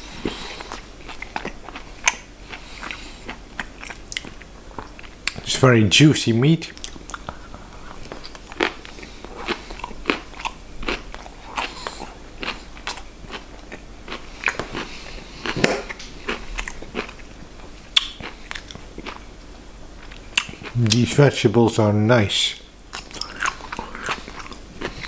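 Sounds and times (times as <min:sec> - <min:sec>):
person chewing food: 0:00.0 - 0:05.4, 0:06.8 - 0:19.4, 0:20.0 - 0:20.8, 0:22.9 - 0:25.0.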